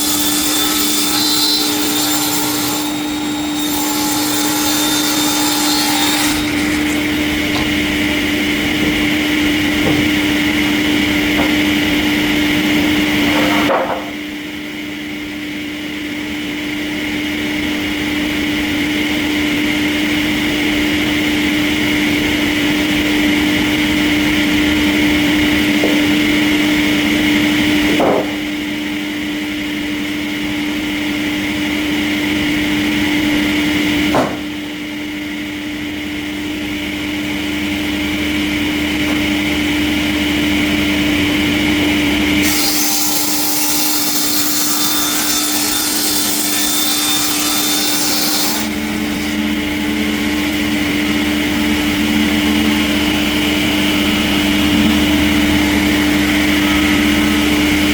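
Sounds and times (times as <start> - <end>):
sawmill machinery drone: 0.0 - 57.9.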